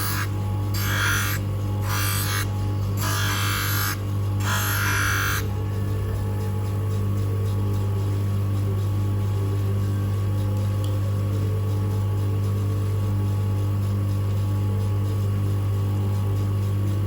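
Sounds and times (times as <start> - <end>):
machine motor hum: 0.0 - 17.0.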